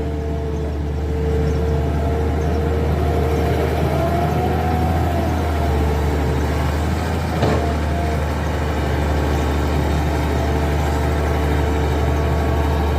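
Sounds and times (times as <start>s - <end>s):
diesel engine rumbling: 0.0s - 12.9s.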